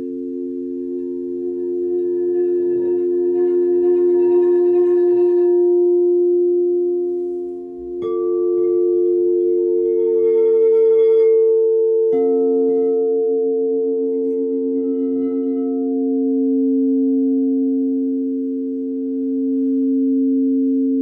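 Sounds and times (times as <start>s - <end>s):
bowl being struck: 0.0s - 21.0s
singing bowls ringing: 0.0s - 21.0s.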